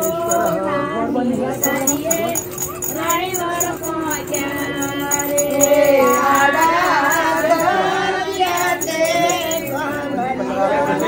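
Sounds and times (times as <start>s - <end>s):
devotional singing: 0.0s - 11.0s
jingling hand percussion: 0.0s - 11.0s.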